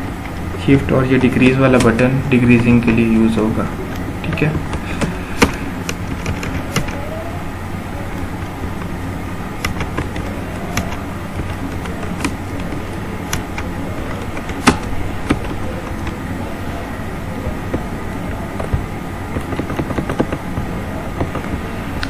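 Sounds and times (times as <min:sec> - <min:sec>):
keyboard keys clicking: 0:00.0 - 0:22.0
low background rumble: 0:00.0 - 0:22.0.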